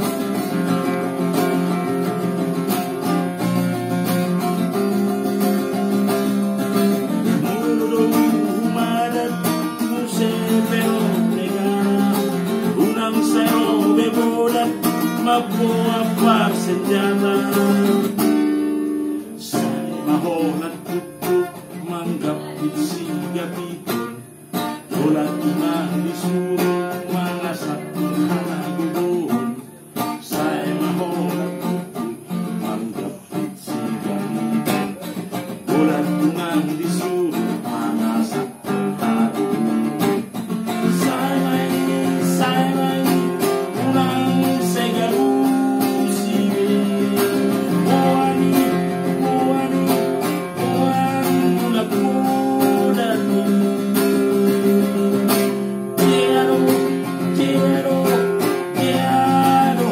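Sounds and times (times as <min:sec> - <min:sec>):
classical guitar strumming chords: 0:00.0 - 0:59.9
man singing: 0:00.0 - 0:59.9.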